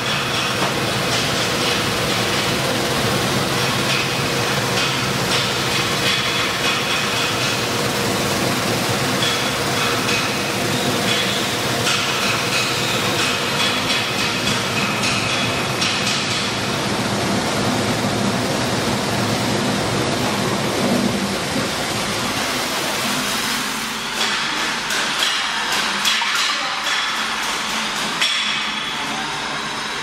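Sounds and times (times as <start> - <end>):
milling machine running: 0.0 - 26.1.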